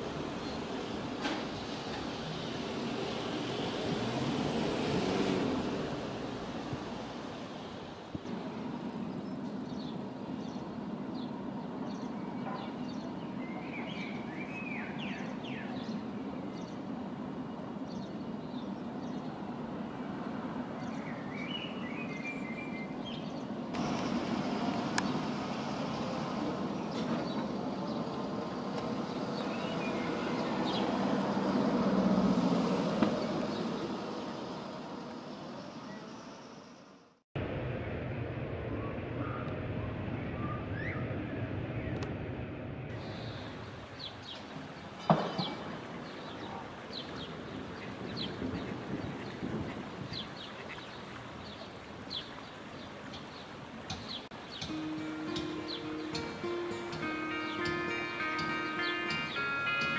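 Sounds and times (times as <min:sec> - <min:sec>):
distant city traffic rumble: 0:00.0 - 0:59.9.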